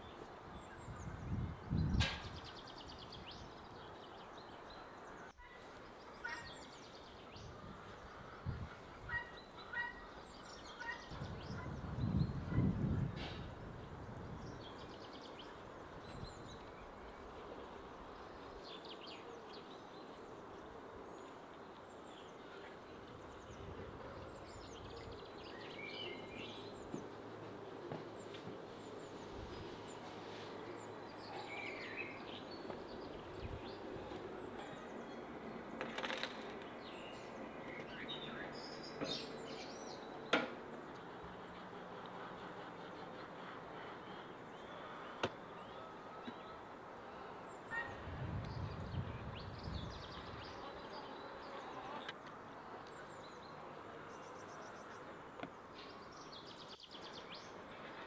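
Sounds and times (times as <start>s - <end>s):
faint outdoor ambience: 0.0s - 58.0s
small birds chirping: 0.0s - 58.0s.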